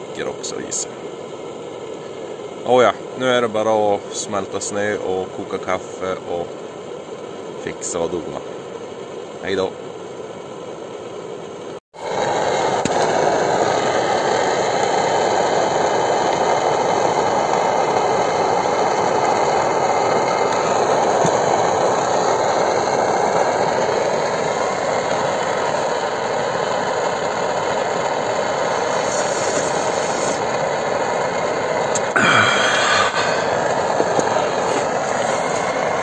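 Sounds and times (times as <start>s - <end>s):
camping stove burning: 0.0s - 36.0s.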